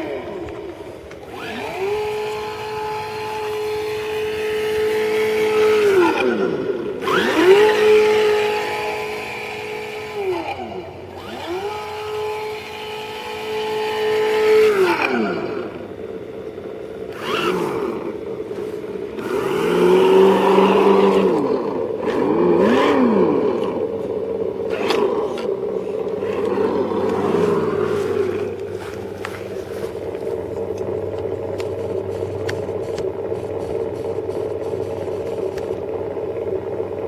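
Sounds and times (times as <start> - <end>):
simulated engine sound from speaker: 0.0 - 37.0.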